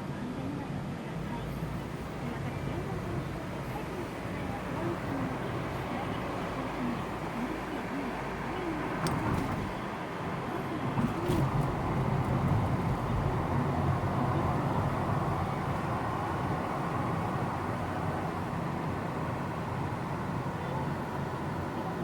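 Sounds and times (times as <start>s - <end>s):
vehicle engine and road rumble: 0.0s - 22.0s.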